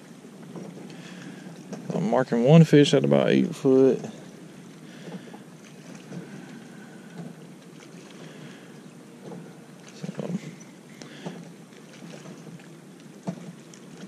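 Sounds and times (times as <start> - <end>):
light wind: 0.0 - 14.0
water against boat hull: 0.0 - 14.0.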